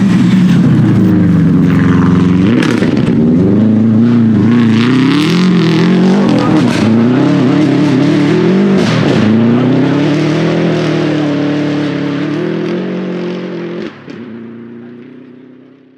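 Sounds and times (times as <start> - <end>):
rally car engine at full throttle: 0.0 - 15.9.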